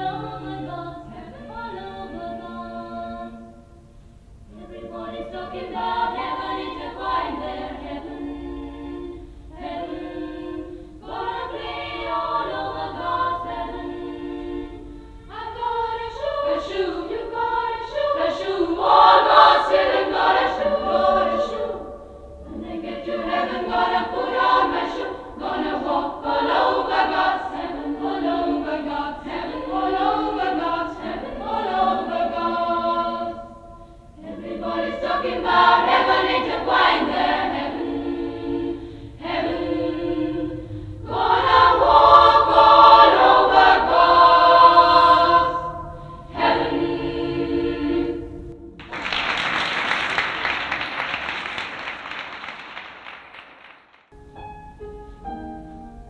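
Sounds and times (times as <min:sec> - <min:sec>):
girls' choir singing: 0:00.0 - 0:03.8, 0:04.4 - 0:49.0.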